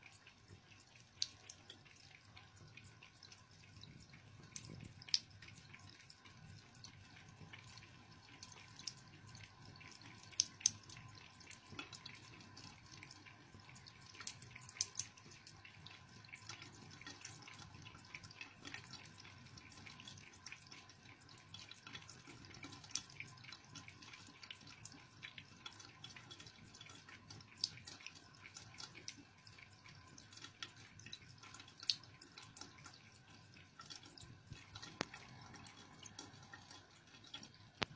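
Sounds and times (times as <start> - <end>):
cat lapping water: 0.0 - 37.9
tap water trickling into sink: 0.0 - 37.9.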